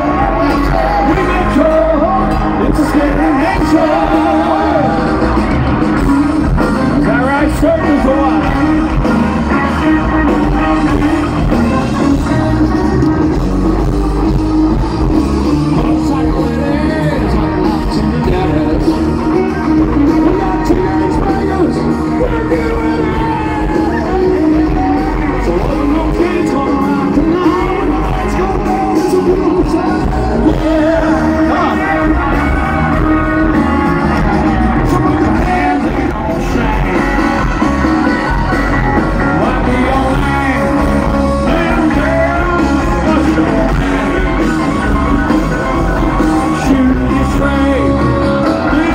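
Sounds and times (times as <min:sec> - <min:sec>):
live rock band with singer: 0:00.0 - 0:48.9.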